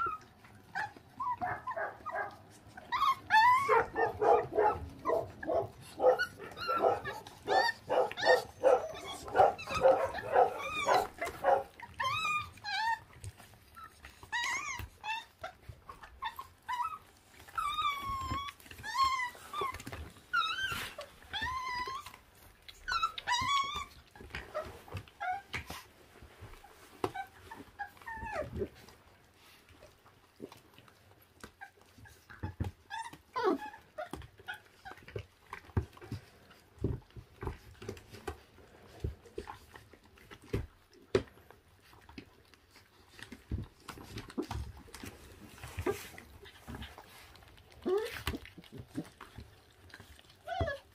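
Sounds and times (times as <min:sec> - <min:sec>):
puppies chewing meat: 0:00.0 - 0:50.9
puppies whining: 0:00.0 - 0:50.9.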